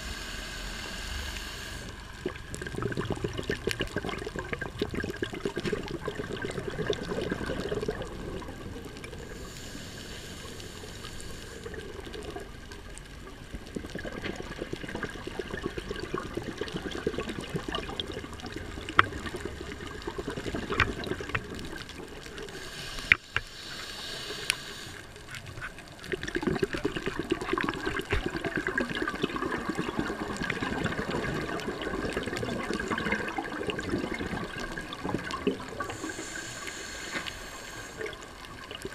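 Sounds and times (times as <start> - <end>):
underwater breath bubbling: 0.0 - 38.9.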